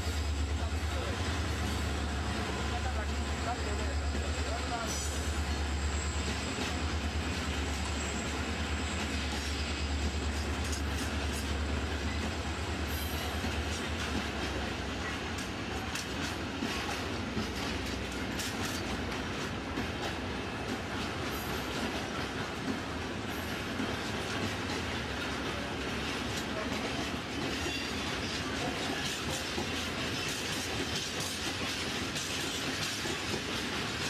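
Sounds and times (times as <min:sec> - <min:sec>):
diesel locomotive engine rumble: 0:00.0 - 0:34.0
train wheels clattering over rail joints: 0:00.0 - 0:34.0.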